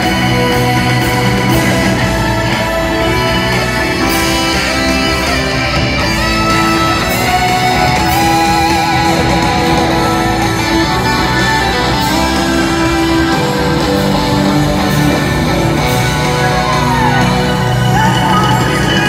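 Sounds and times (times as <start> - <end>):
rock band with orchestra: 0.0 - 19.0.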